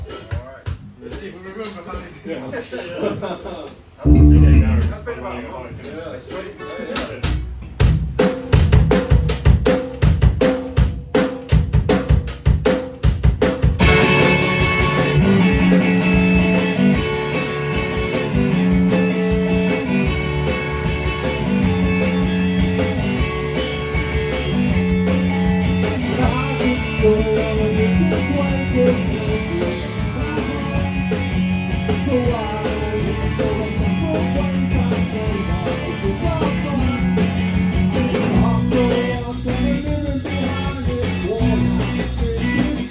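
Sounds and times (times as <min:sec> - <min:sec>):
drum kit beat: 0:04.0 - 0:05.2, 0:07.0 - 0:42.9
rock band playing: 0:04.0 - 0:05.3, 0:07.2 - 0:42.9.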